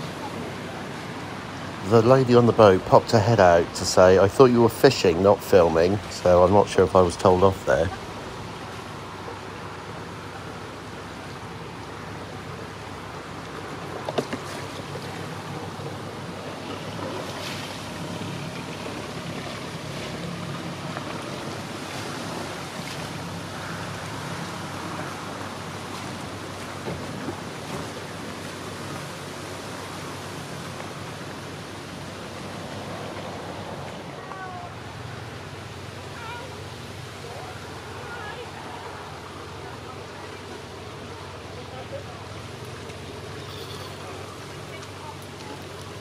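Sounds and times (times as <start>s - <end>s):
boat engine humming: 0.0s - 46.0s
water lapping: 0.0s - 46.0s
wind: 0.0s - 46.0s.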